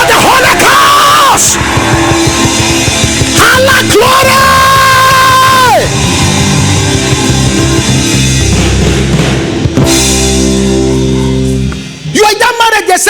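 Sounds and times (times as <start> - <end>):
loud band music: 0.0 - 13.0.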